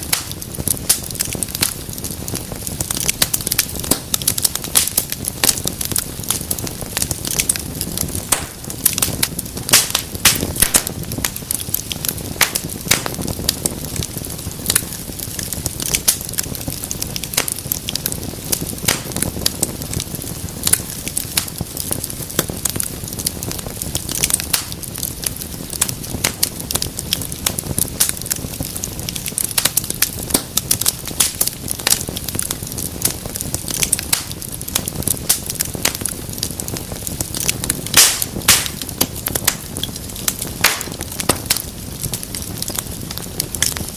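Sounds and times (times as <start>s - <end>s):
low rush of flame: 0.0s - 43.9s
wood fire crackling and popping: 0.0s - 43.9s.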